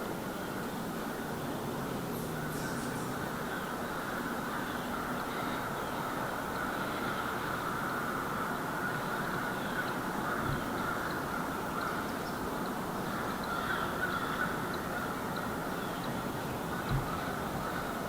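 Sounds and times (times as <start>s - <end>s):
woodland ambience hiss: 0.0s - 18.0s
distant crows cawing: 2.4s - 18.0s.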